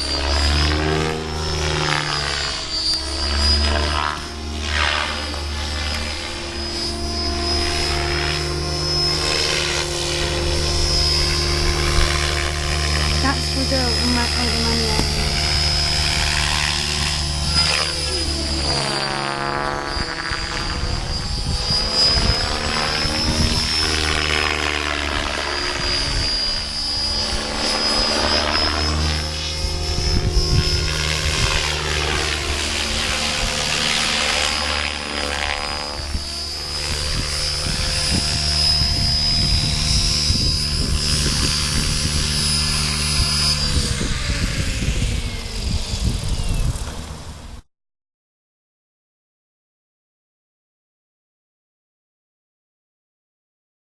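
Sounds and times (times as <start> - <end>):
model helicopter rotor whine: 0.0 - 47.7.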